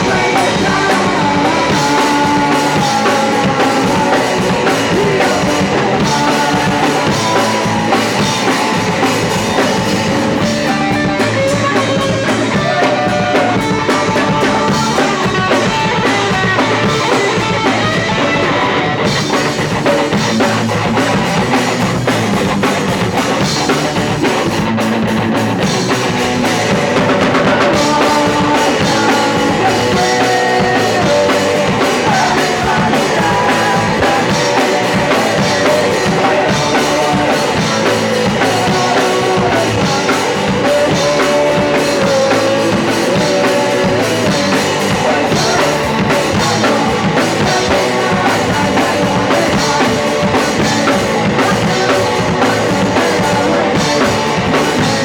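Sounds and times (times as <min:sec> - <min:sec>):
guitar: 0:00.0 - 0:55.0
pounding drum kit: 0:00.0 - 0:55.0
punk rock band playing live: 0:00.0 - 0:55.0.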